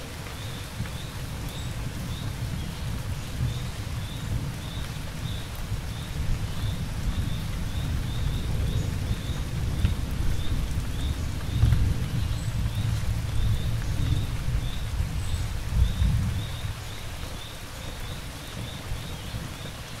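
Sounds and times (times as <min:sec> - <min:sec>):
steady rain: 0:00.0 - 0:20.0
low thunder rumble: 0:01.2 - 0:19.8.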